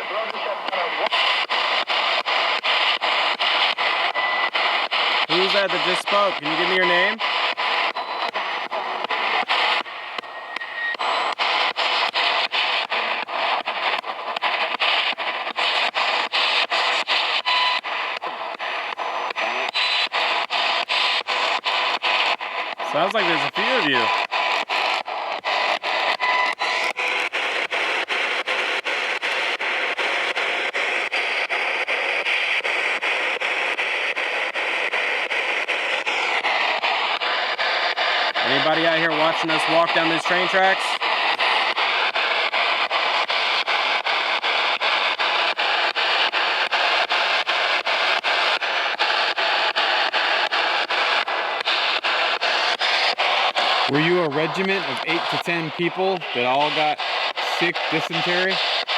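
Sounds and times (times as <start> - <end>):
radio static hiss: 0.0 - 58.9.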